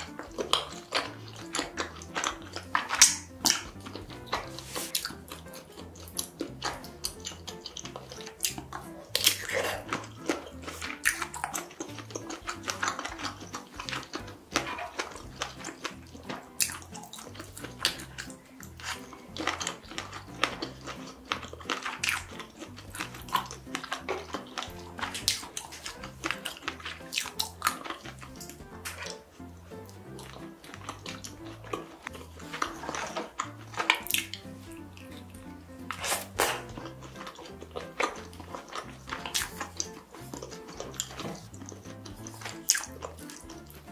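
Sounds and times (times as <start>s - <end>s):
wet chewing of food: 0.0s - 43.9s.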